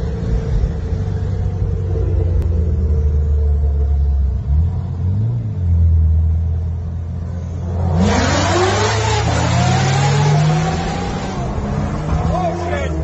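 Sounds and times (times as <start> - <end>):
car engines droning: 0.0 - 13.0.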